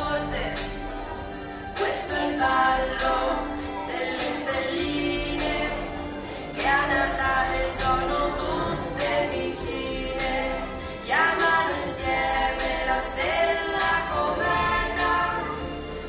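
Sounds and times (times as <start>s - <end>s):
people singing: 0.0s - 16.0s
sleigh bells shaking: 0.0s - 16.0s.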